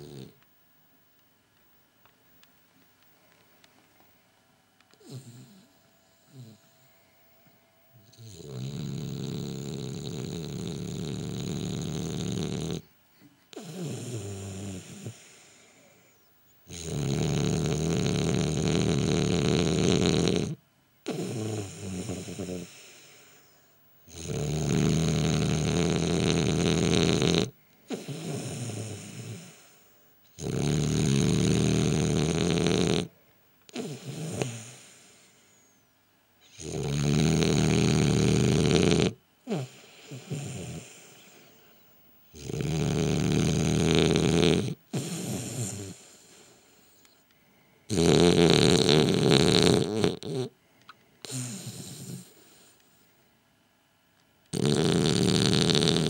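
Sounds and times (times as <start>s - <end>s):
dog snoring: 0.0s - 0.4s, 4.9s - 6.8s, 8.0s - 12.9s, 13.5s - 35.7s, 36.4s - 41.6s, 42.3s - 47.0s, 47.9s - 50.6s, 51.2s - 52.8s, 54.5s - 56.0s.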